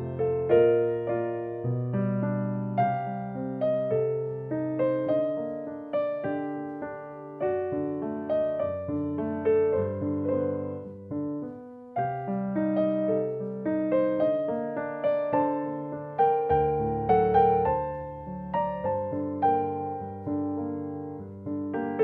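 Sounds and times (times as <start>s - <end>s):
slow solo piano melody: 0.0s - 22.0s.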